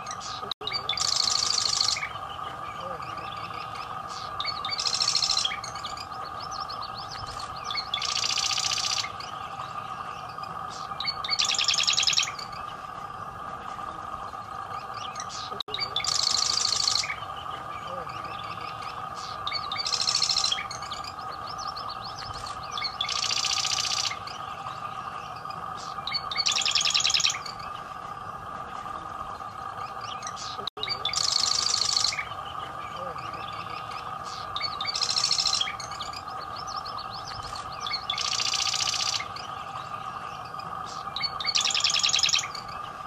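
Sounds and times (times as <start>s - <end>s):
steady hum: 0.0s - 43.0s
wren singing rattling trills: 0.0s - 43.0s.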